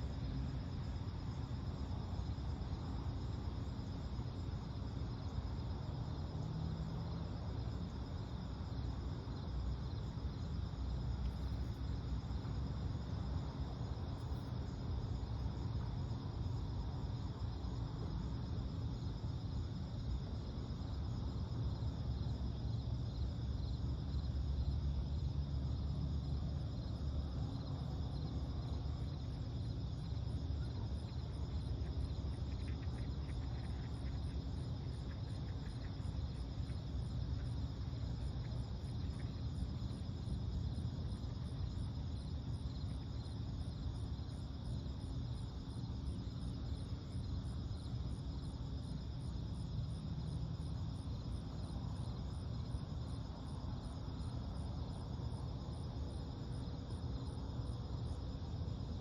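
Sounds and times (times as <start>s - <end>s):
low steady rumble: 0.0s - 59.0s
night insects chirping: 0.0s - 59.0s.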